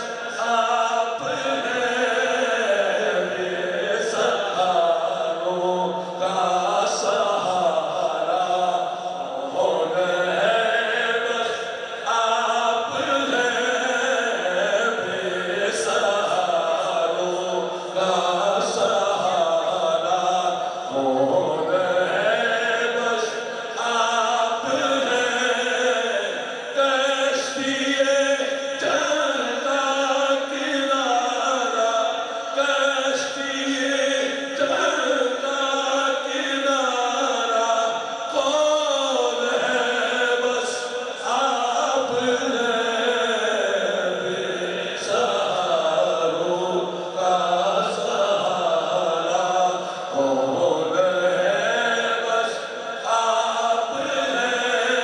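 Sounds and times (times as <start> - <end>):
man singing into a microphone: 0.0 - 55.0.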